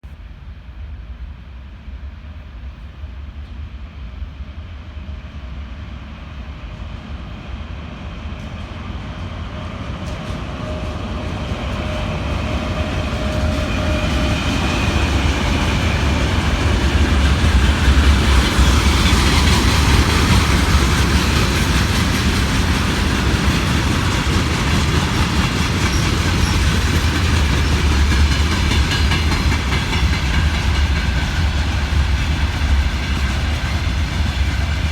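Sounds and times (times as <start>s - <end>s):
freight train rumbling: 0.0s - 34.9s.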